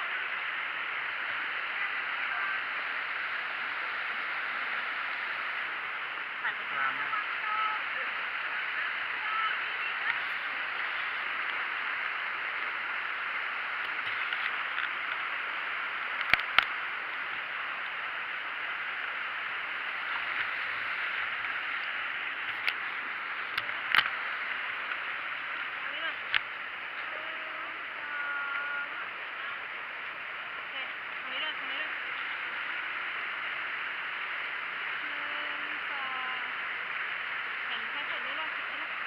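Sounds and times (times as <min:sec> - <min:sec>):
flowing water: 0:00.0 - 0:39.0.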